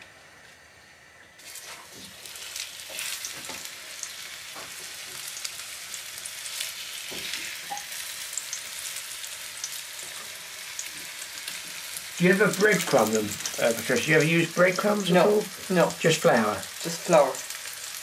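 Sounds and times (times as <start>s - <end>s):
fish sizzling in hot oil: 1.4s - 18.0s
oil popping and crackling: 1.4s - 18.0s.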